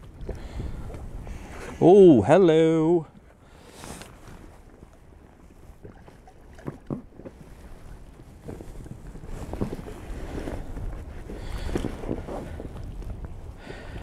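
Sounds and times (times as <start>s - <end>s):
wind buffeting microphone: 0.0s - 3.0s, 4.2s - 14.0s.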